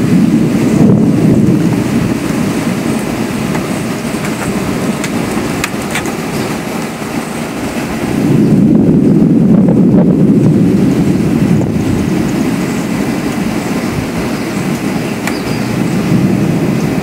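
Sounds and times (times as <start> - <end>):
gusty wind through trees: 0.0 - 17.0
wind buffeting microphone: 0.0 - 17.0.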